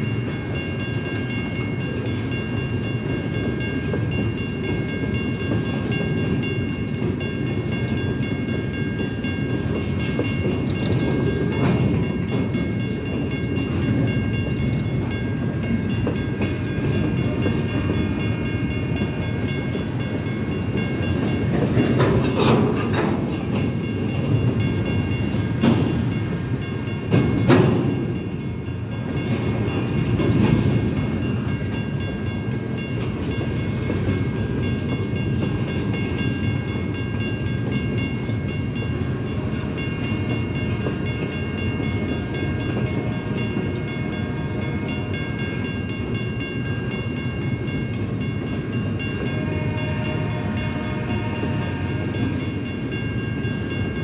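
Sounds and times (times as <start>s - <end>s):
crossing bell ringing: 0.0s - 54.0s
train wheels rumbling on rail: 0.0s - 54.0s.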